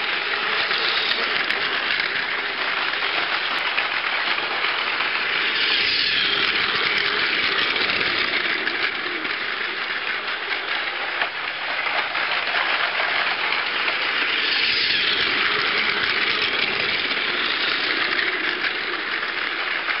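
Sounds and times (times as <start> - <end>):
plastic wheels rattling: 0.0 - 20.0
toy train motor whirring: 0.0 - 20.0.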